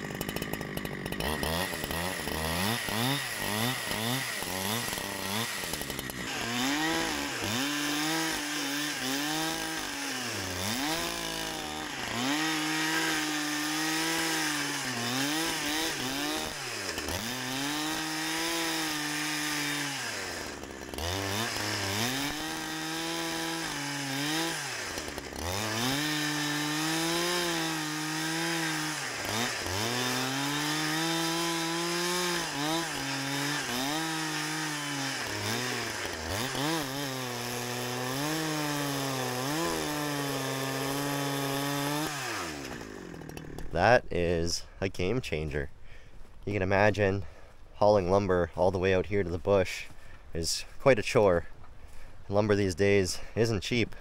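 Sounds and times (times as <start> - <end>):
chainsaw cutting log: 0.0 - 47.4.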